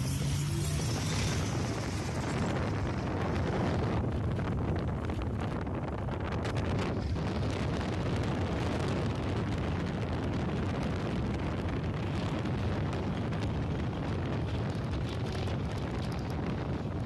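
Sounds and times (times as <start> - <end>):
road and vehicle noise: 0.0 - 17.0
wind buffeting microphone: 0.0 - 17.0.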